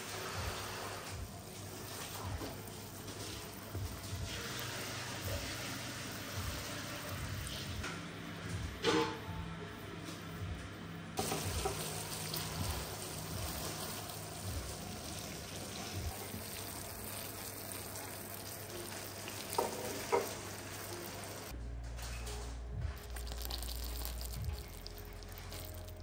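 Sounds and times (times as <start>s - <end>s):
sugar syrup sizzling: 0.0s - 7.8s, 11.2s - 21.5s, 23.0s - 26.0s.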